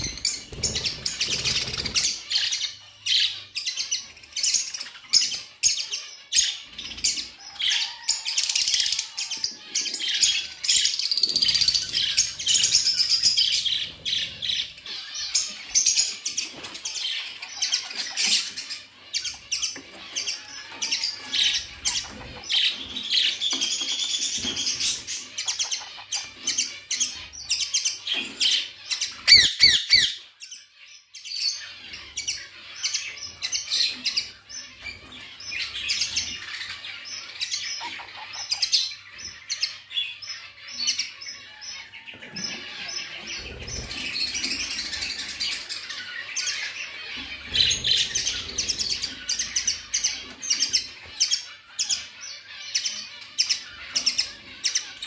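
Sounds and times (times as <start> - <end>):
parakeets chirping: 0.0 - 55.0
parakeets squawking: 0.0 - 55.0.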